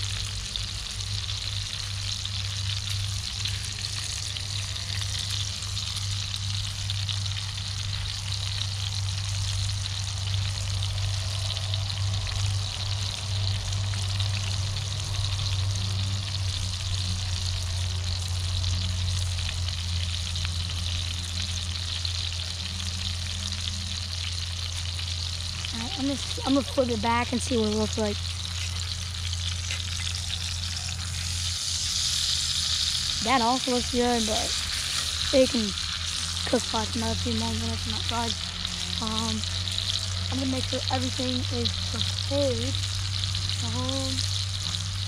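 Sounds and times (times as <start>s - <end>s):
low rumble: 0.0s - 45.0s
steak sizzling in a skillet: 0.0s - 45.0s.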